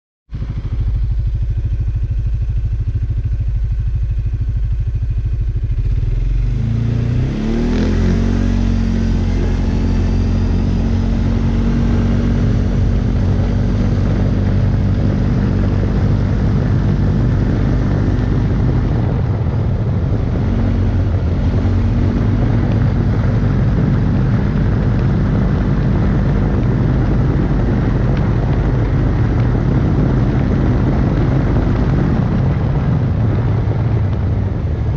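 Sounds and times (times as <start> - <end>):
quad bike engine running: 0.3 - 34.9.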